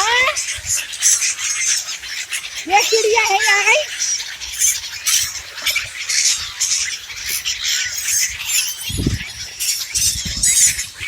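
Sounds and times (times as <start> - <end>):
small birds chirping and squawking: 0.0 - 11.0.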